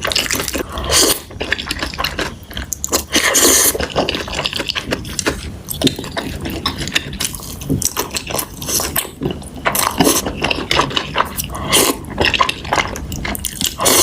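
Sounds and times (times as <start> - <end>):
slurping: 0.0 - 7.5, 8.1 - 14.0
wet chewing and mouth noises: 0.0 - 14.0.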